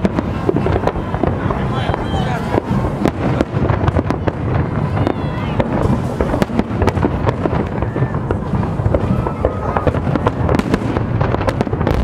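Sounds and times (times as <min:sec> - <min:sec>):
fireworks bursts and crackles: 0:00.0 - 0:12.0.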